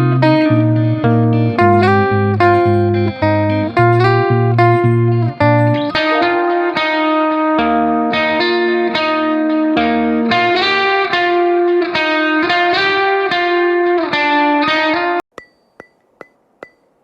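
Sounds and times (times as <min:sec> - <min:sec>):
guitar playing ringing chords: 0:00.0 - 0:16.8.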